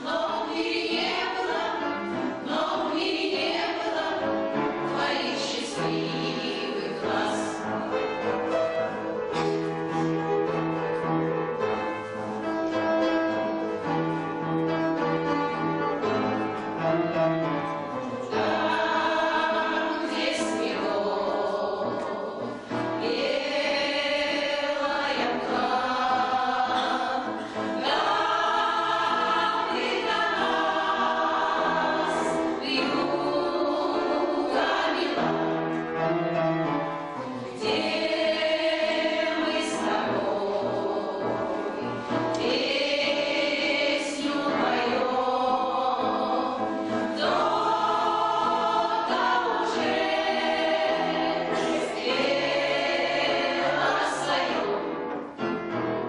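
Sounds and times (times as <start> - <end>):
choir singing: 0.0 - 9.5, 15.6 - 36.1, 37.0 - 55.6.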